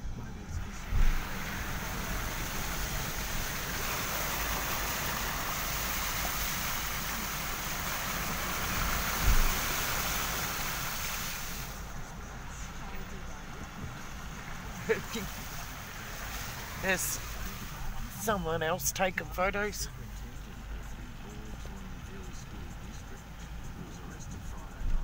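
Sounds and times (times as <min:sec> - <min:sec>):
tyres spraying through water: 0:00.0 - 0:25.0.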